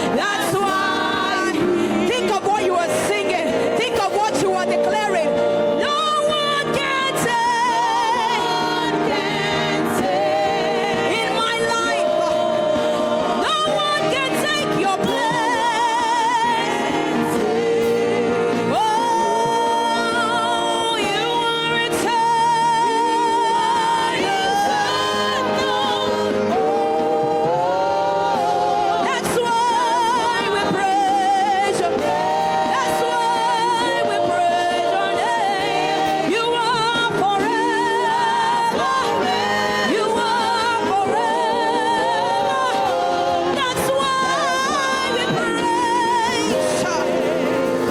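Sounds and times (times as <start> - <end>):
instrumental backing: 0.0 - 47.9
voices singing with vibrato: 0.0 - 47.9.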